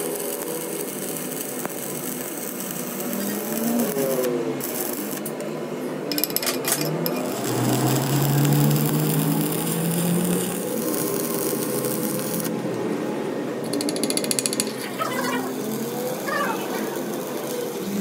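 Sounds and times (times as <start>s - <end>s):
welding arc crackling: 0.0s - 5.5s, 6.1s - 12.8s, 13.6s - 18.0s.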